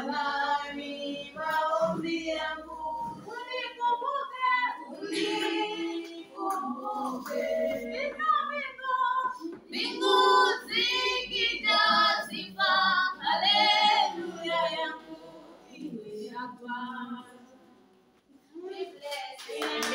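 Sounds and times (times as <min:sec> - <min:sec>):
girls singing together: 0:00.0 - 0:19.9.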